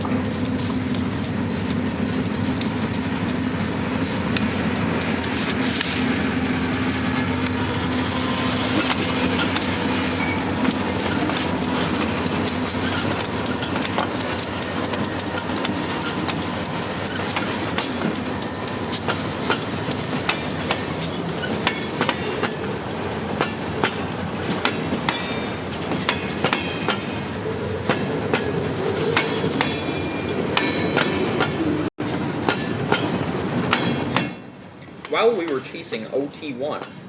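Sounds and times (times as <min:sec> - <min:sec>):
freight train rumble: 0:00.0 - 0:37.0
wheels clicking over rail joints: 0:00.0 - 0:37.0.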